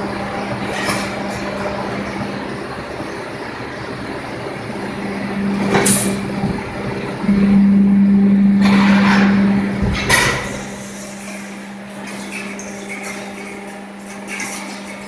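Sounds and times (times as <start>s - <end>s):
machine drive humming: 0.0s - 15.0s.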